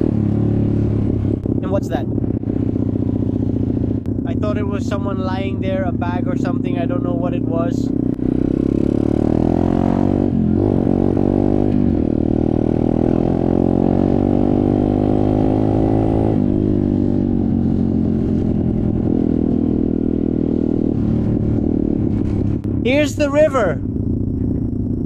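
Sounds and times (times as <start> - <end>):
dirt bike engine: 0.0 - 25.0.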